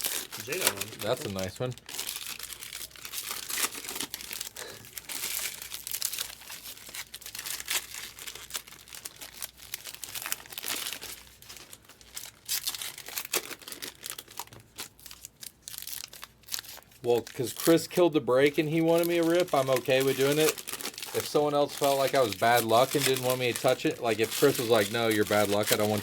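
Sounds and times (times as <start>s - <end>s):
foil wrappers crinkling and tearing: 0.0s - 26.0s.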